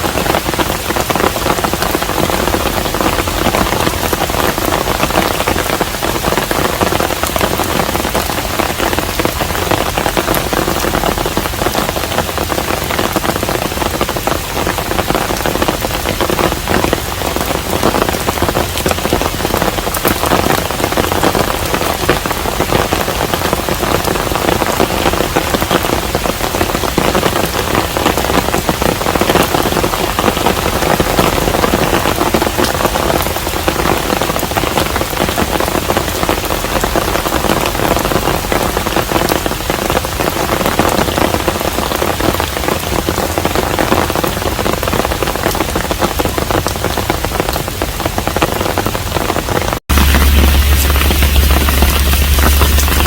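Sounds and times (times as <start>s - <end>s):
rain pattering on a house: 0.0s - 53.0s.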